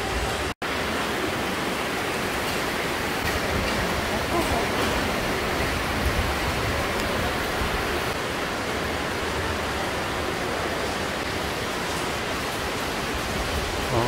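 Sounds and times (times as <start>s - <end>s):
flowing water in a cave: 0.0s - 14.0s.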